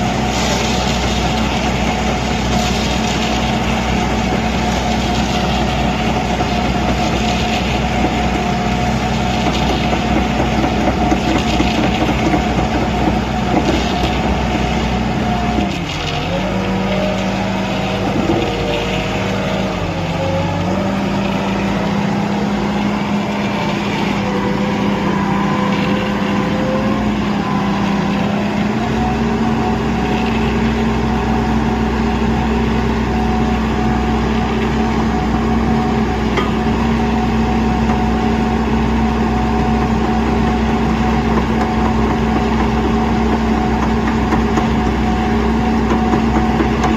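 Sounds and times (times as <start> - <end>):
concrete mixer engine running: 0.0 - 46.9.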